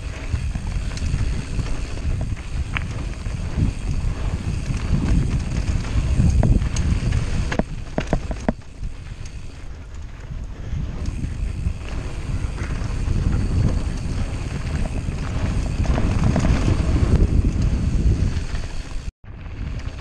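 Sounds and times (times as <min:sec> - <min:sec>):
bike rattling over bumps: 0:00.0 - 0:20.0
bike tyres rumbling on dirt: 0:00.0 - 0:20.0
wind buffeting microphone: 0:00.0 - 0:20.0.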